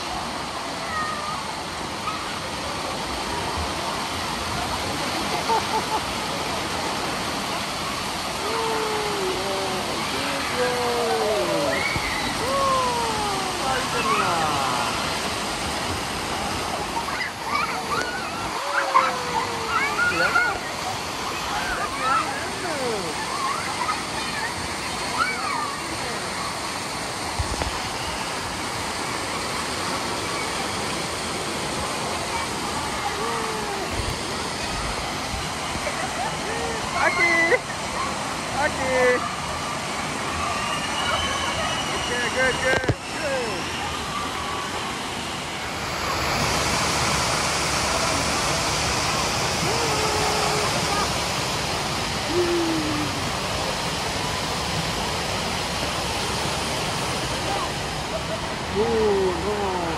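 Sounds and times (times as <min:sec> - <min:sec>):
waterfall pouring into pool: 0:00.0 - 0:59.9.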